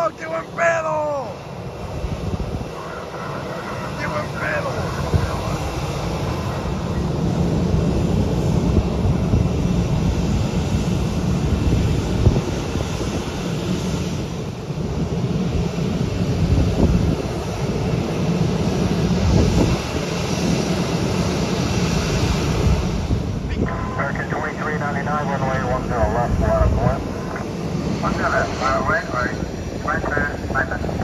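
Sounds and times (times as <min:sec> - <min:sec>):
jet engines running: 0:00.0 - 0:31.0
wind rumbling on microphone: 0:01.4 - 0:31.0.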